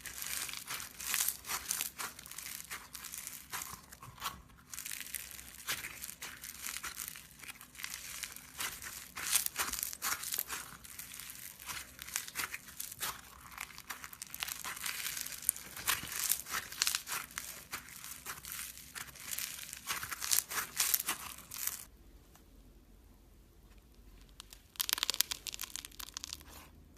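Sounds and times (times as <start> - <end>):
crunchy slime crackling and popping: 0.0 - 21.9, 23.8 - 26.8.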